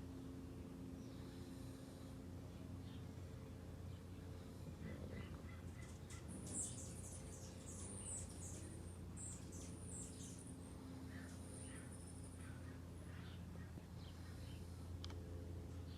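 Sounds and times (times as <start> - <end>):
faint low hum: 0.0 - 15.9
small birds chirping: 0.0 - 15.9.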